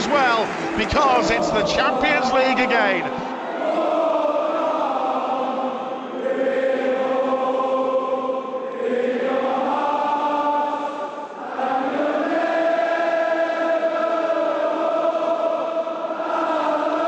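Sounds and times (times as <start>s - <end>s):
choir singing slow anthem: 0.0s - 17.0s.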